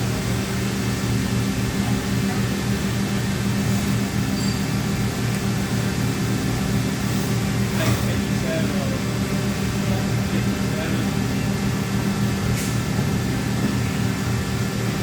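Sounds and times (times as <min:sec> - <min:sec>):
machine hum with low tones: 0:00.0 - 0:15.0.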